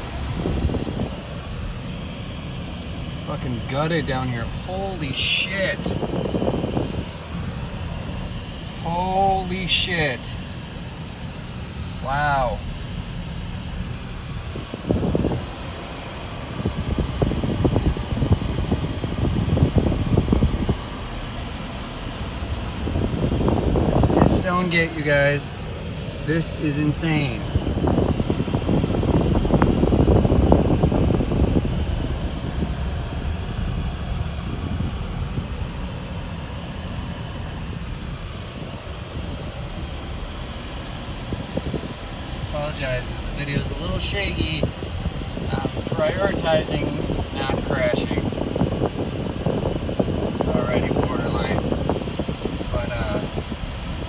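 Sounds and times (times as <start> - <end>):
car ventilation fan hiss: 0.0 - 54.0
low rumble of car driving: 0.0 - 54.0.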